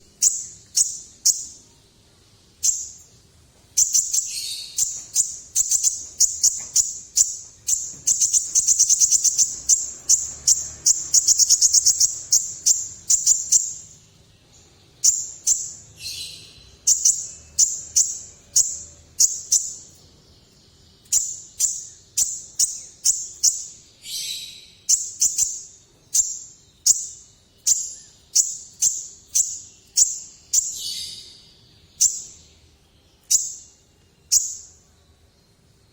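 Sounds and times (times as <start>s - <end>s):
bird chirping and trilling: 0.0s - 35.1s.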